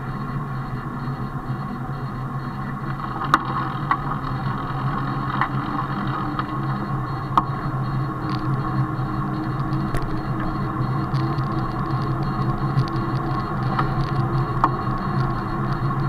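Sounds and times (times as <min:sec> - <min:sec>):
bicycle tyre hum on asphalt: 0:00.0 - 0:16.0
sharp clicks from bumps: 0:02.7 - 0:16.0.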